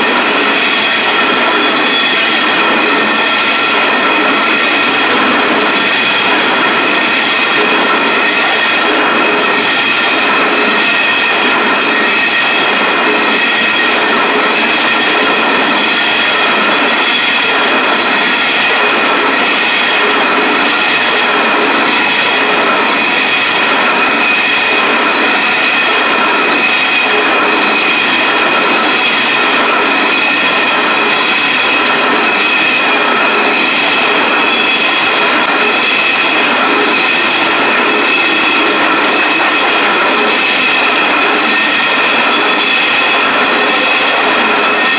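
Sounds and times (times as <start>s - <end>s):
high-pitched wheel whine: 0.0s - 44.9s
train wheels rumbling on rails: 0.0s - 44.9s.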